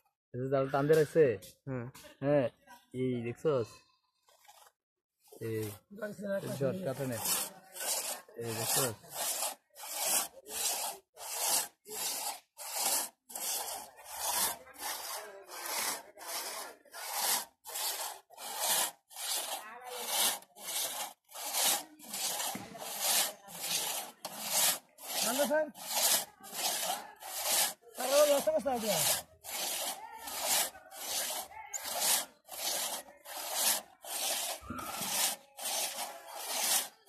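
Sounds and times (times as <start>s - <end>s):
crosscut saw rasping through wood: 4.2s - 37.0s.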